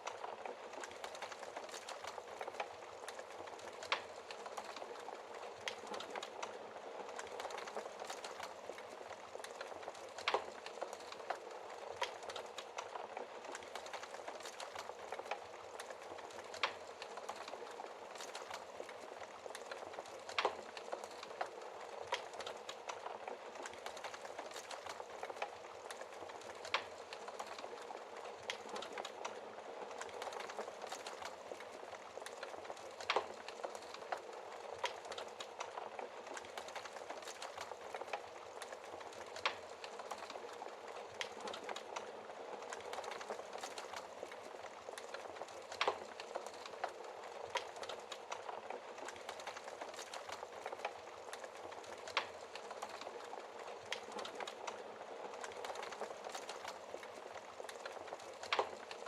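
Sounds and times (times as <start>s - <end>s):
wood fire crackling: 0.0s - 59.0s
burning wood popping: 0.3s - 59.0s.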